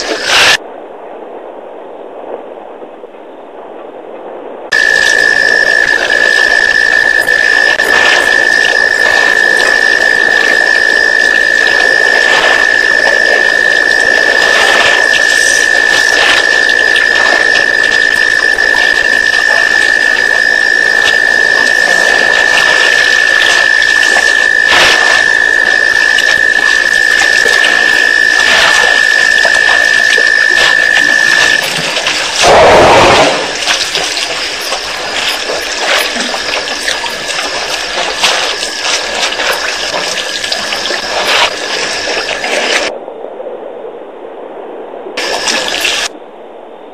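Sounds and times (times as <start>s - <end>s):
water sloshing and splashing: 0.0s - 0.6s, 4.7s - 42.9s, 45.2s - 46.2s
high-pitched whine: 4.7s - 42.9s.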